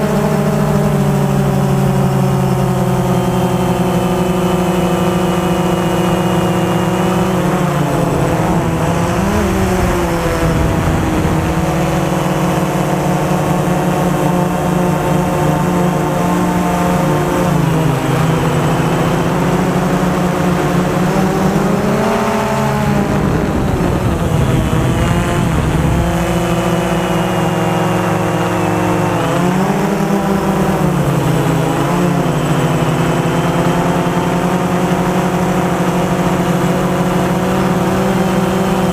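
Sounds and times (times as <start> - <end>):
low wind rumble: 0.0 - 33.3
drone motors buzzing: 0.0 - 38.9.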